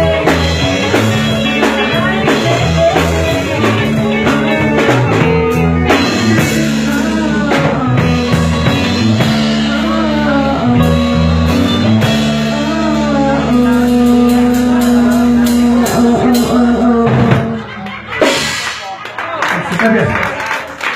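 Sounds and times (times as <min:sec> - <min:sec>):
person singing: 0:00.0 - 0:18.6
electric guitar: 0:00.0 - 0:18.9
bass guitar: 0:00.0 - 0:19.1
drums: 0:00.0 - 0:20.9.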